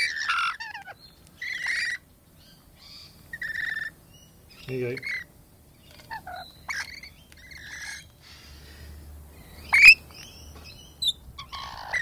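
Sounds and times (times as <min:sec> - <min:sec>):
lorikeets chirping and squawking: 0:00.0 - 0:12.0.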